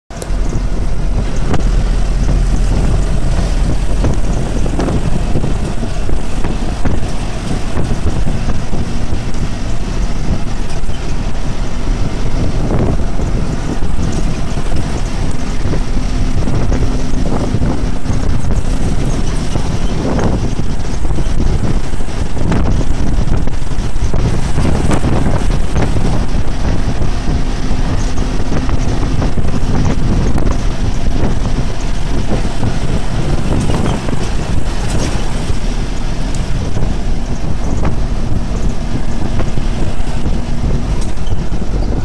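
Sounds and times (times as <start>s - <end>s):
vehicle rumble: 0.0s - 42.0s
wind buffeting microphone: 0.1s - 42.0s.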